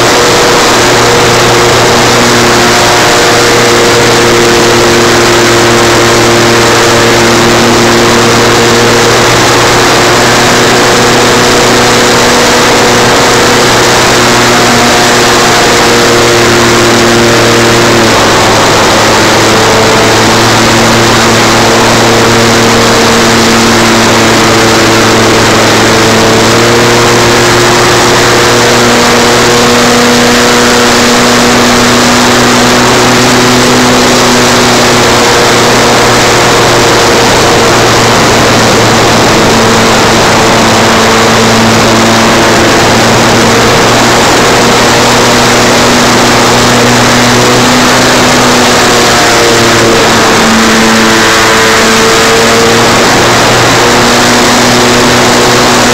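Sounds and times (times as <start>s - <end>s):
electric motor and propeller drone: 0.0s - 55.9s
wind noise: 0.0s - 55.9s.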